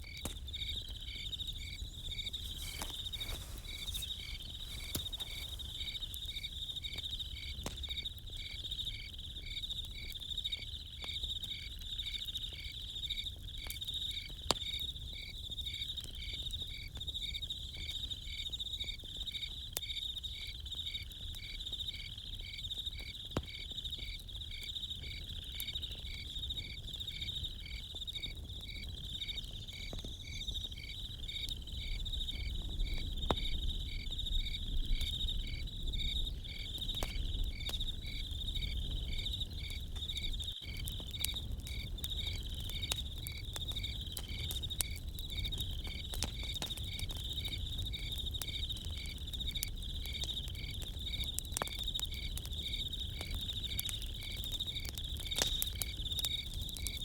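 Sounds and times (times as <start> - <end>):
campfire crackling: 0.0 - 57.0
crickets chirping: 0.0 - 57.0
high insect trill: 0.0 - 57.0.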